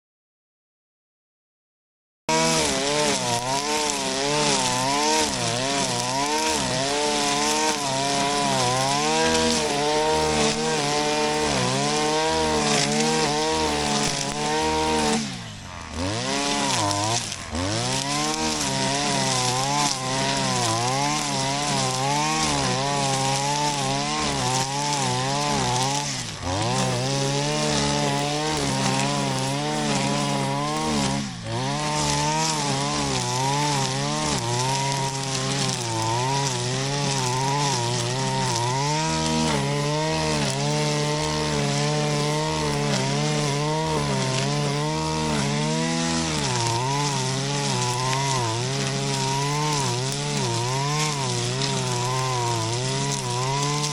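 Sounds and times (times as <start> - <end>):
brush cutter engine cutting grass: 2.3 - 53.9.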